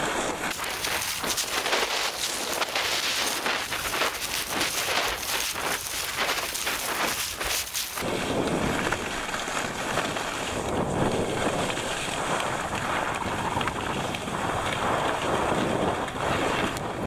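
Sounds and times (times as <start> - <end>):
skis scraping over snow: 0.0 - 17.0
wind rushing over microphone: 0.0 - 17.0.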